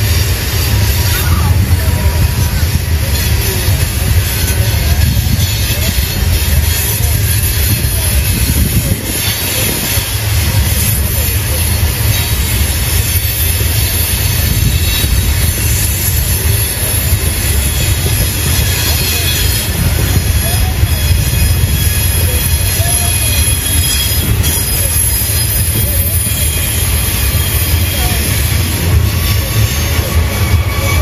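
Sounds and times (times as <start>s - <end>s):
train wheels rumbling: 0.0s - 31.0s
wheel squeal on rail: 0.0s - 31.0s.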